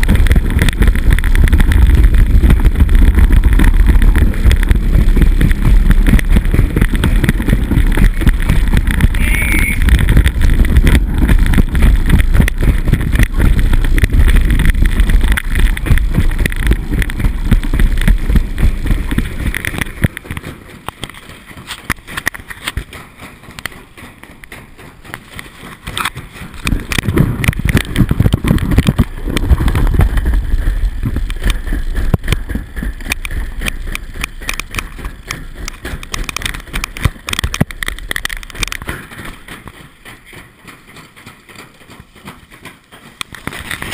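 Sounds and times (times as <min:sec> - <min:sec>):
wind on microphone: 0:00.0 - 0:23.0, 0:25.8 - 0:39.8.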